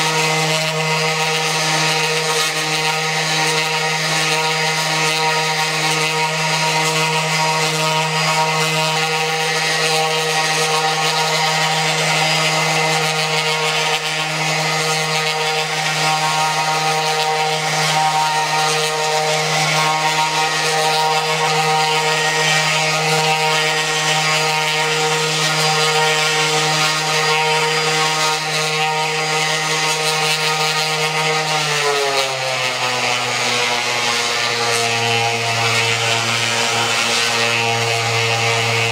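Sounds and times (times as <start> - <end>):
palm sander on painted wood: 0.0 - 38.9.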